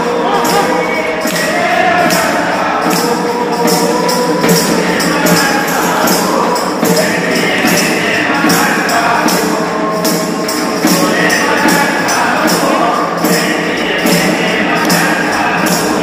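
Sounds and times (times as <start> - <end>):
frame drum: 0.0 - 16.0
jingle rings shaken: 0.0 - 16.0
man singing into a microphone: 0.0 - 16.0.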